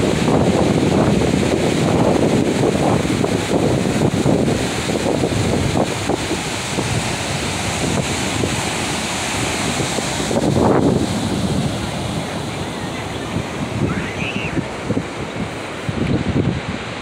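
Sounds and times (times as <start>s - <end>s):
ocean surf washing onto beach: 0.0s - 17.0s
wind buffeting microphone: 0.0s - 17.0s.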